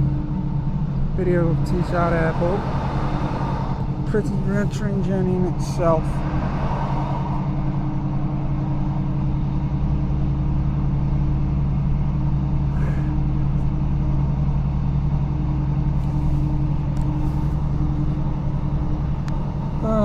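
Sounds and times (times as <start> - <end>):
train engine hum and rumble: 0.0 - 20.0.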